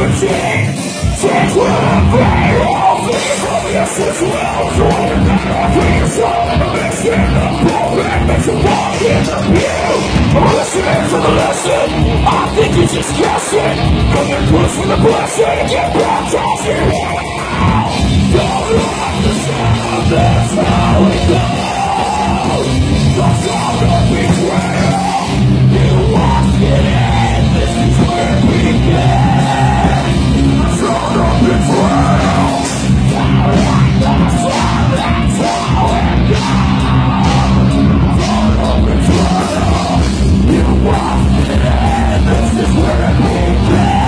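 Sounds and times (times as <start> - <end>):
heavy metal band playing live: 0.0 - 44.0.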